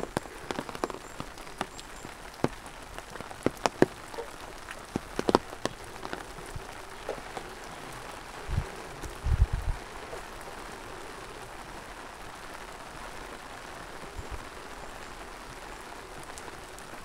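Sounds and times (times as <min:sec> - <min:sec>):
raindrops tapping close by: 0:00.0 - 0:17.0
steady rain: 0:00.0 - 0:17.0.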